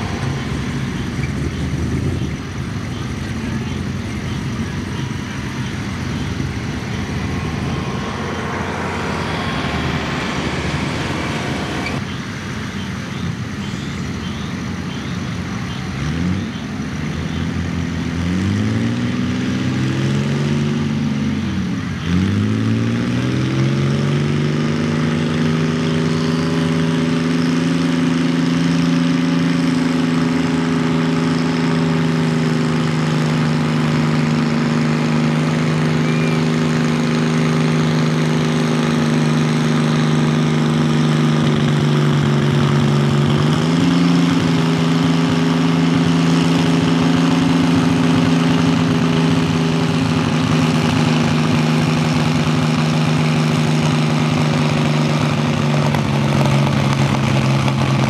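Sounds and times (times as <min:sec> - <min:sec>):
tractor engine revving: 0:00.0 - 0:14.5, 0:15.7 - 0:58.0
steady background noise: 0:00.0 - 0:58.0.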